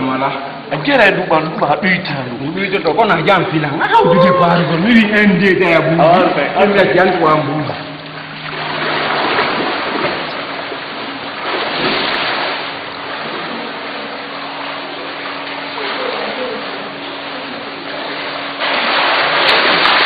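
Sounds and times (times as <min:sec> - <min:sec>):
pool water splashing: 0:03.2 - 0:20.0.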